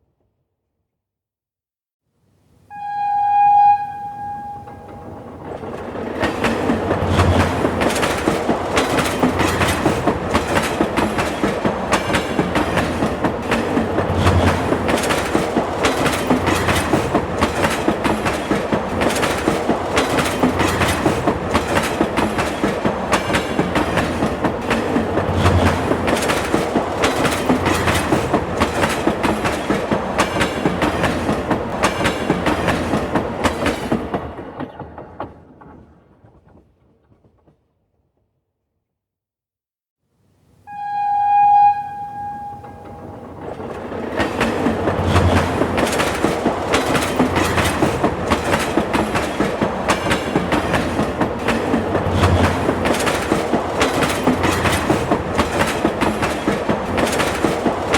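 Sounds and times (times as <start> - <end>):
train wheels clattering on rails: 4.4 - 37.7, 42.2 - 57.9.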